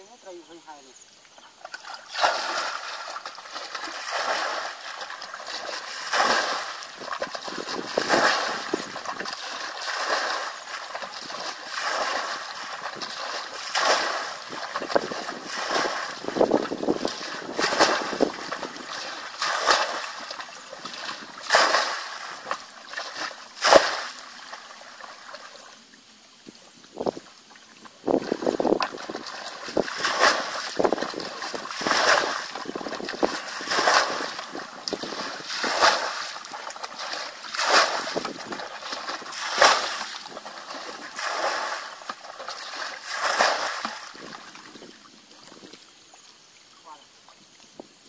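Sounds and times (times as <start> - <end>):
bucket scooping and splashing water: 1.6 - 25.7, 27.8 - 45.8.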